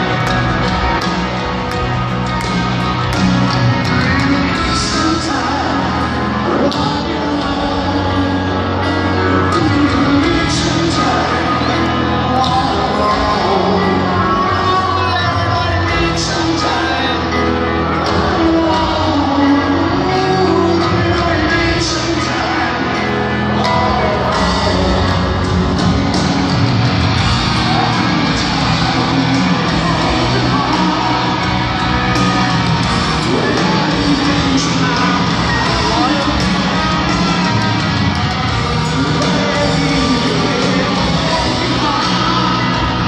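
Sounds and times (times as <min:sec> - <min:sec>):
live rock band with piano: 0:00.0 - 0:43.0
person singing: 0:00.0 - 0:43.0.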